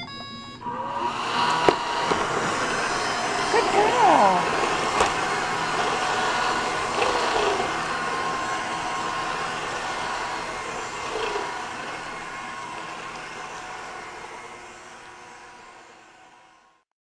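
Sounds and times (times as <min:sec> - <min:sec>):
robot vacuum whirring: 0:00.0 - 0:16.8.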